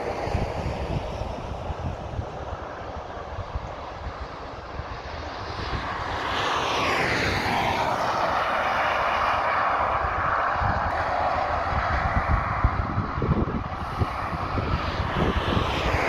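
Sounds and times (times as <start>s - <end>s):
motorway traffic roar: 0.0s - 16.0s.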